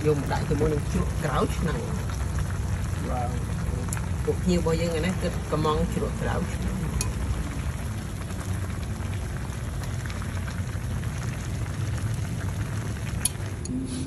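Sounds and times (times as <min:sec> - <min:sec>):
soup boiling in a pan: 0:00.0 - 0:14.0.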